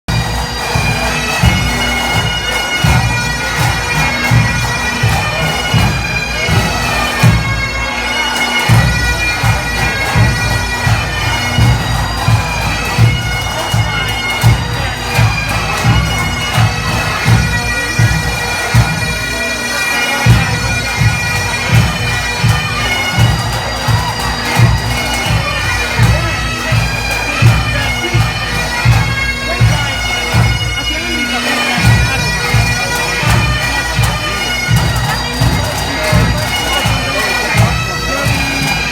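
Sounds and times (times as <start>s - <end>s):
bagpipes playing: 0.1s - 38.9s.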